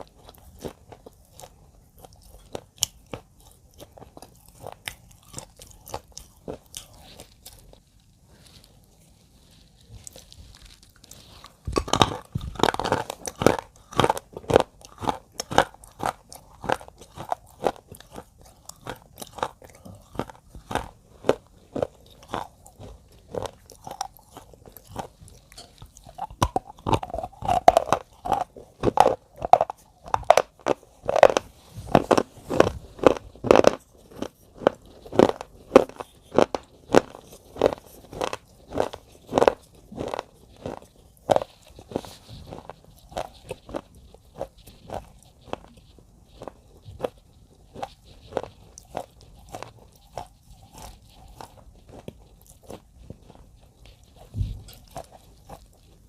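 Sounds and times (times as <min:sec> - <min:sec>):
crunching: 0:00.0 - 0:56.0.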